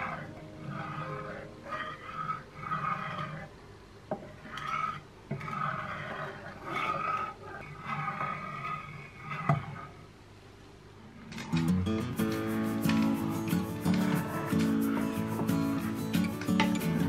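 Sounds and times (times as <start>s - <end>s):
spatula scraping pan: 0.0s - 3.6s, 4.2s - 10.1s, 12.2s - 17.0s.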